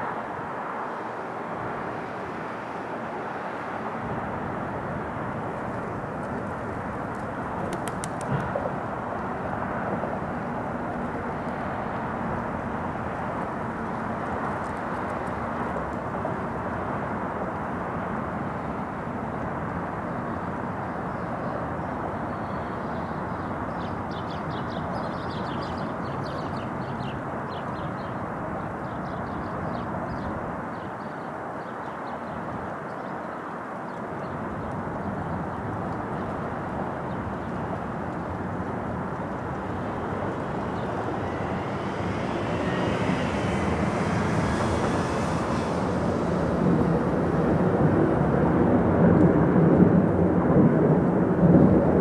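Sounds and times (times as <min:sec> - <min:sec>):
distant jet rumble: 0:00.0 - 0:52.0.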